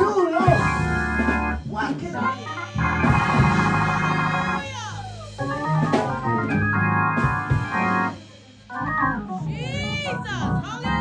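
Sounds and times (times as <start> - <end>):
organ playing chords: 0.2 - 11.0.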